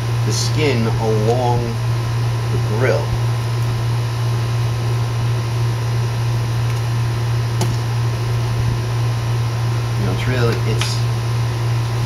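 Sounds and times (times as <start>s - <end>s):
fan humming and hissing: 0.0s - 12.0s.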